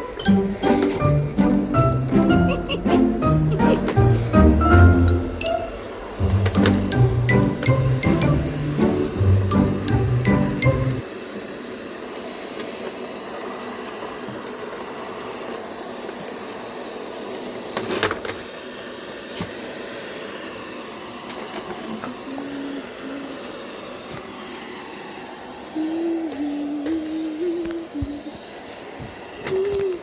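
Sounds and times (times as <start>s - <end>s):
robot vacuum running: 0.0s - 30.0s.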